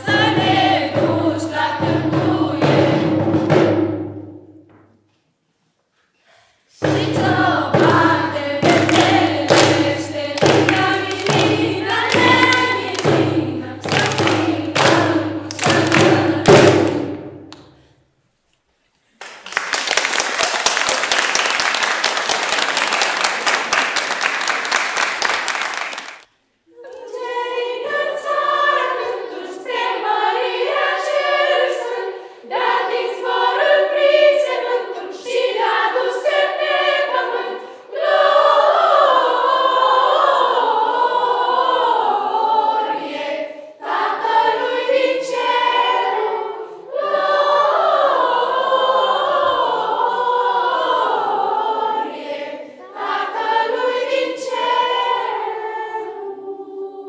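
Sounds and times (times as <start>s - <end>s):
children's choir singing a cappella: 0.0s - 4.8s, 6.1s - 18.0s, 21.0s - 57.0s.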